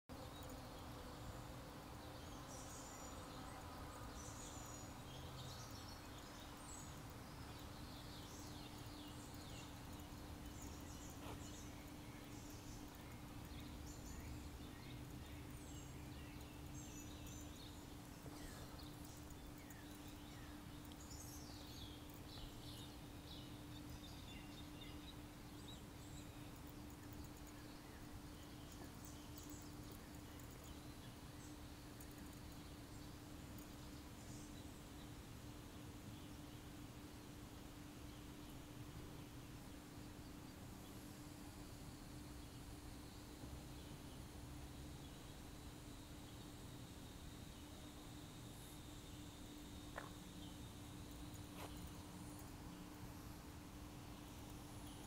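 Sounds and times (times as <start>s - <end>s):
steady low hum: 0.1s - 55.0s.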